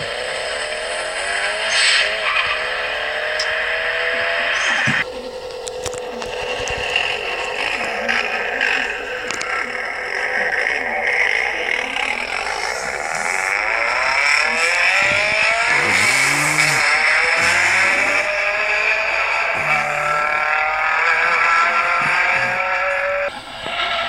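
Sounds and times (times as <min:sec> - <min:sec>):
car engine revving under load: 0:00.0 - 0:24.0.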